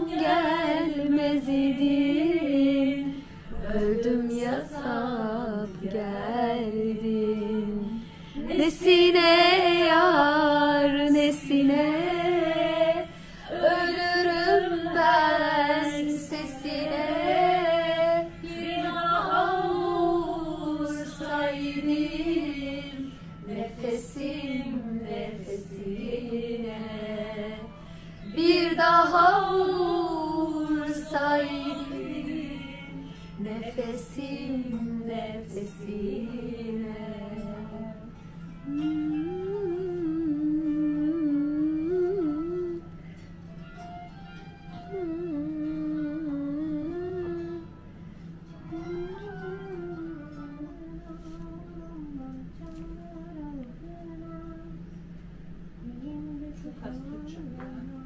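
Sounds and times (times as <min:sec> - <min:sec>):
woman singing: 0:00.0 - 0:43.0, 0:44.7 - 0:47.8, 0:48.7 - 0:55.2, 0:55.8 - 0:58.0.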